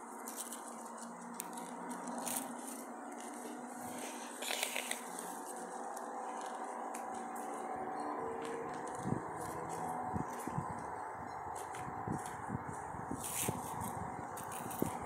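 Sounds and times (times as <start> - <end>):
dry leaves crunching and rustling: 0.0 - 7.8, 8.4 - 10.8, 11.5 - 15.0.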